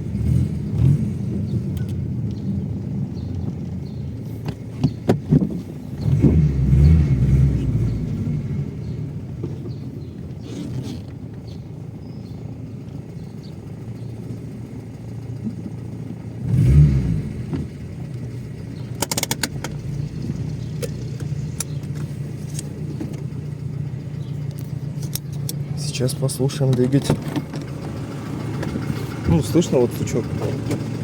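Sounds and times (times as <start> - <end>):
car engine idling: 0.0 - 31.0
engine ticking and clicking: 0.0 - 31.0.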